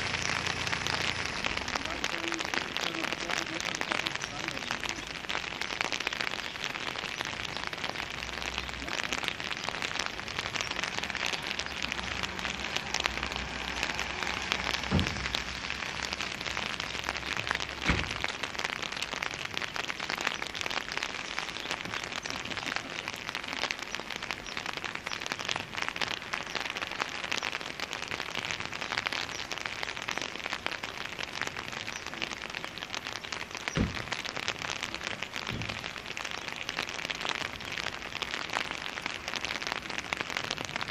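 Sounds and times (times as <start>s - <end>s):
light rain on wet pavement: 0.0s - 40.9s.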